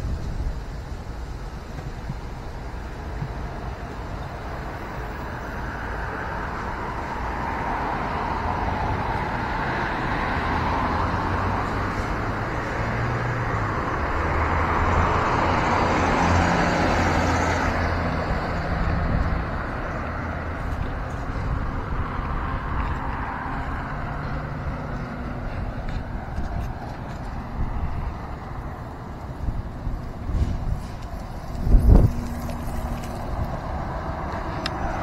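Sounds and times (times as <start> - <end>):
vehicle passing: 2.9 - 35.0.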